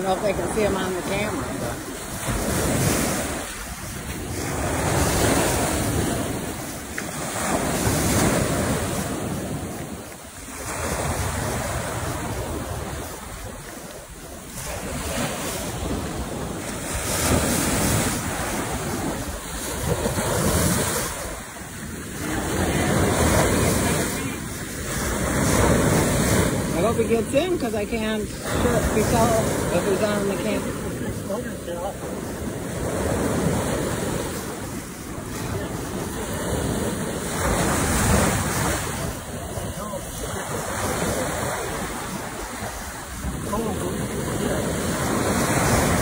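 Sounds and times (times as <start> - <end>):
waves breaking on gravel shore: 0.0 - 46.0.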